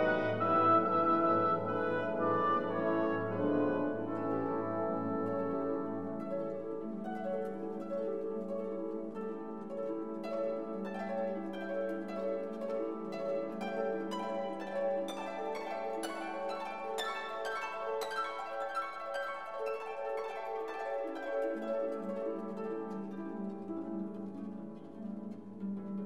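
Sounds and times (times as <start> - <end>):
plucked notes: 0.0 - 26.0.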